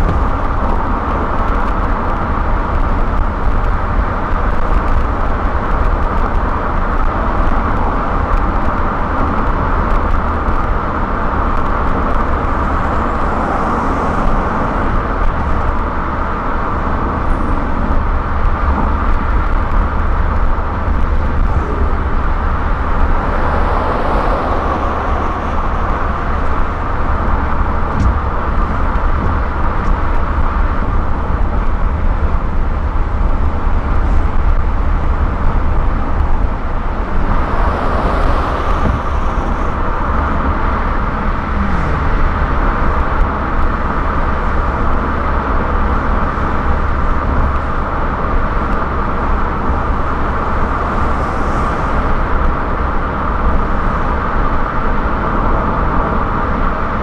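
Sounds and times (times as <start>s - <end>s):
car cruising road noise: 0.0s - 57.0s.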